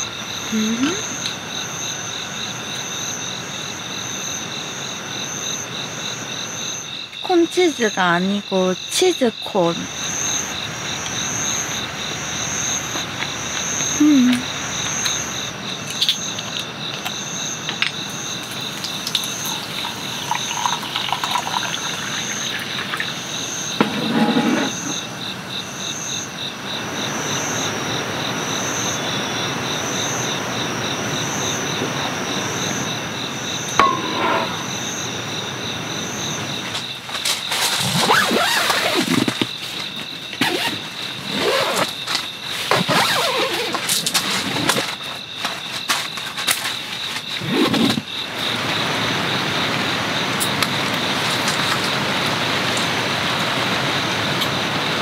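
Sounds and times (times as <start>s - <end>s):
lower insect trill: 0.0s - 55.0s
night insects chirping: 0.0s - 55.0s.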